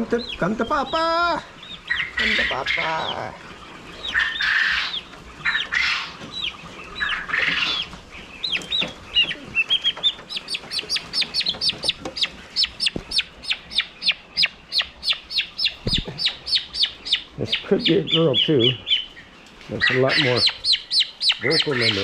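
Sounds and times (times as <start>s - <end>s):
turkey poult peeping: 0.0s - 22.0s.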